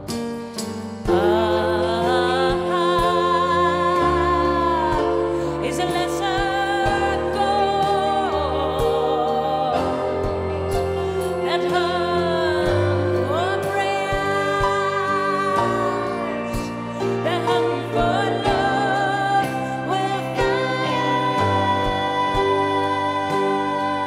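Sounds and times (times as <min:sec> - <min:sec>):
instrumental accompaniment: 0:00.0 - 0:24.0
woman singing wordless notes: 0:01.1 - 0:24.0.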